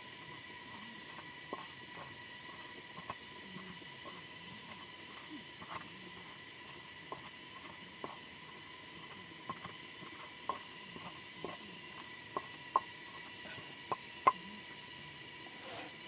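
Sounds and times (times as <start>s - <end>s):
faint steady hiss: 0.0s - 16.0s
thin steady whine: 0.0s - 16.0s.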